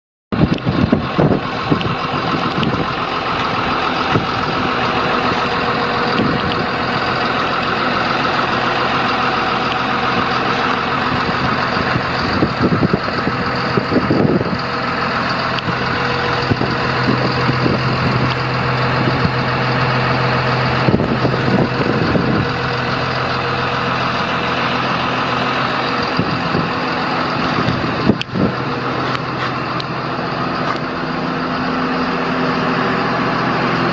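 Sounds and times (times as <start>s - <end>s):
diesel engine running: 0.3s - 33.9s.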